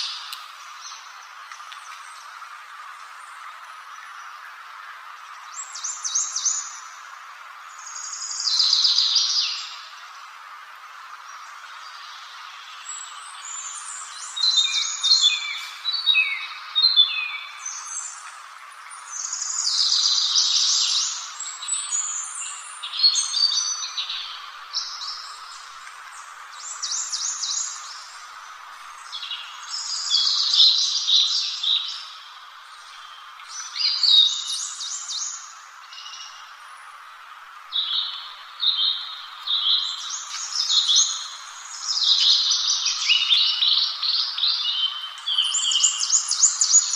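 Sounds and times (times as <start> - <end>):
background hiss: 0.0 - 46.9
songbird singing: 0.0 - 46.9.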